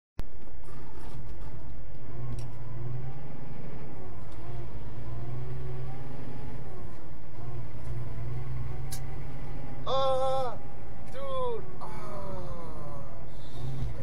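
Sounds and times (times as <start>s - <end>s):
truck engine from inside cab: 0.2s - 14.0s.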